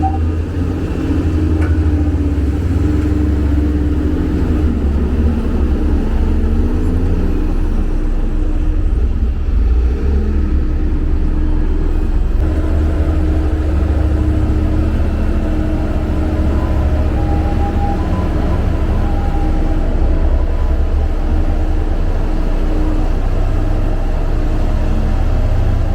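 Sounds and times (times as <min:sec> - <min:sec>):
diesel engine rumbling: 0:00.0 - 0:25.9.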